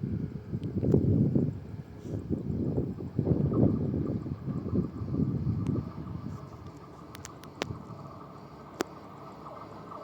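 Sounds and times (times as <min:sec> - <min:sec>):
diesel railcar rumble: 0:00.0 - 0:10.0
faint steady whine: 0:00.0 - 0:10.0
wind buffeting microphone: 0:00.0 - 0:10.0.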